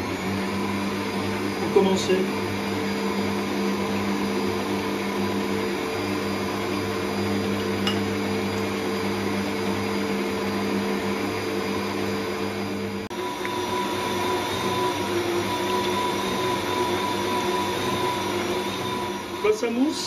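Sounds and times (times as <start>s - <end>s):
stand mixer motor humming: 0.0s - 20.0s.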